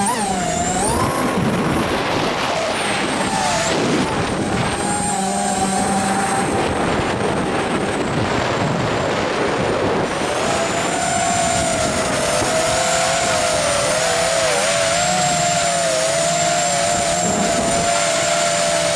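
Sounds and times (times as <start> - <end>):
drone motors whining: 0.0 - 18.9
wind rush: 0.0 - 18.9.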